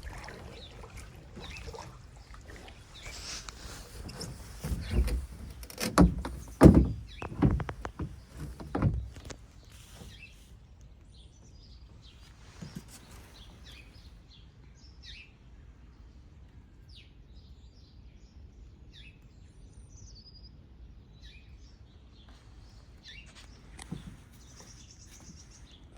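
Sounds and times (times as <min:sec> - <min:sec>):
small birds chirping: 0:00.0 - 0:16.0, 0:16.9 - 0:25.9.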